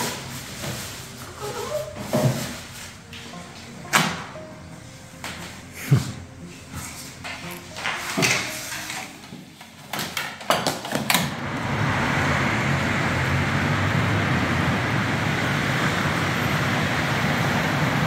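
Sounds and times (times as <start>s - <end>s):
road traffic noise: 0.0s - 9.8s, 11.0s - 18.0s.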